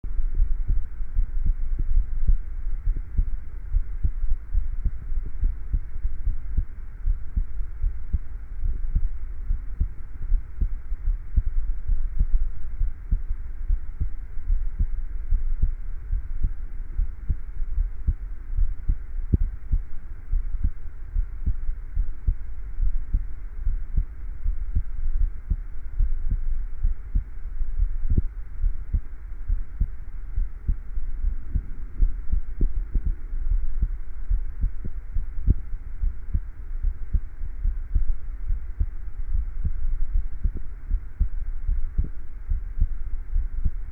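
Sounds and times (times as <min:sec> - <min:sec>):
faint steady hiss: 0:00.0 - 0:43.9
heartbeat thumps: 0:00.1 - 0:43.9.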